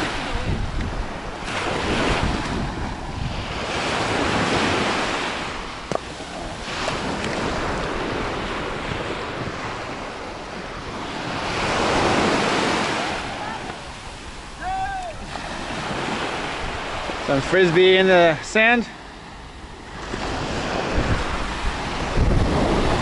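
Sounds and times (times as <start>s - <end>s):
surf washing up beach: 0.0s - 23.0s
wind buffeting microphone: 0.0s - 23.0s.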